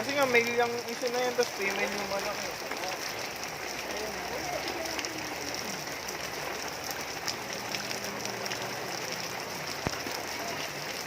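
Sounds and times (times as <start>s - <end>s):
steady rainfall: 0.0s - 11.0s.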